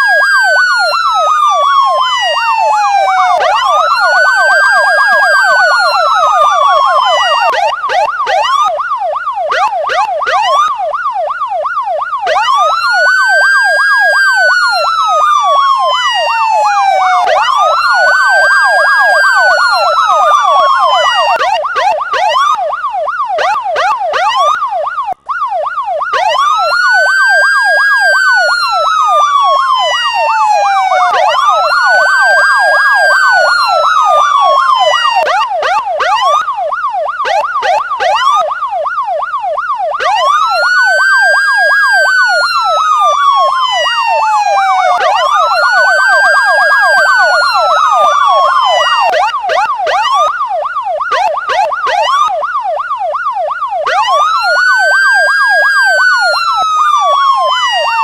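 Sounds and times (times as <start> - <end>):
electronic police siren: 0.0 - 58.0.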